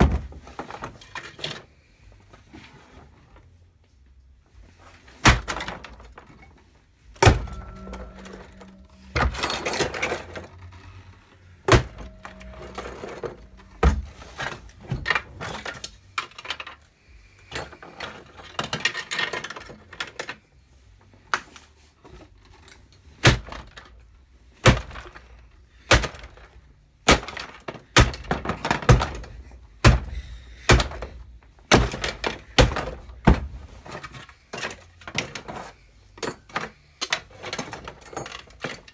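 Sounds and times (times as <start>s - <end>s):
plastic and metal parts clattering: 0.0s - 3.6s, 4.6s - 38.9s.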